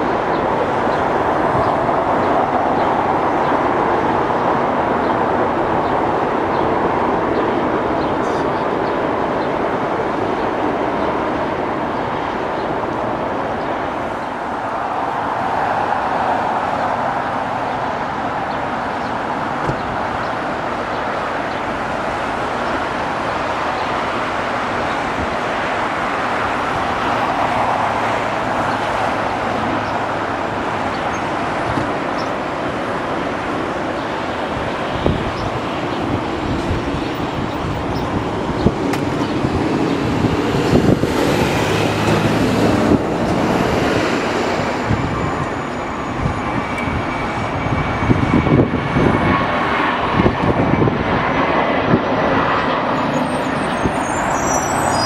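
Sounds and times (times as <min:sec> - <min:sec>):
jet airliners roaring: 0:00.0 - 0:55.0
road traffic: 0:00.0 - 0:55.0.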